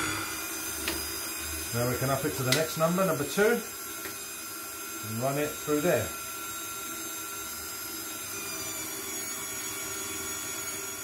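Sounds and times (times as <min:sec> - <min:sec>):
stand mixer whining: 0:00.0 - 0:11.0.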